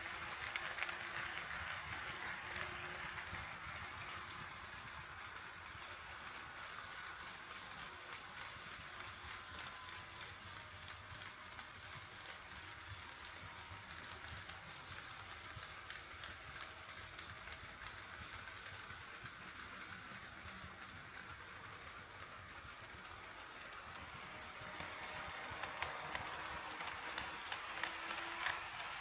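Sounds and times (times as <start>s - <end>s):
light clicks of train wheels: 0.0s - 29.0s
model train rolling on track: 0.0s - 29.0s.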